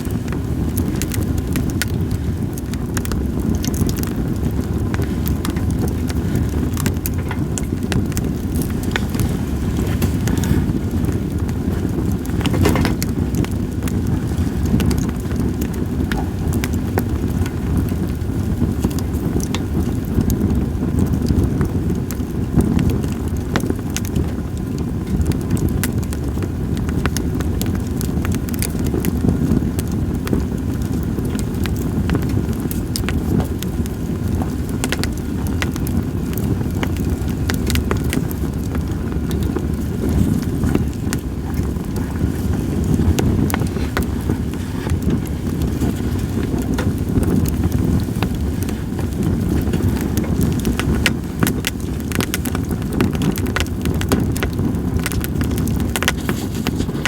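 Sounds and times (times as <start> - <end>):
campfire logs crackling and popping: 0.0 - 57.0
wind rumble on microphone: 0.0 - 57.0.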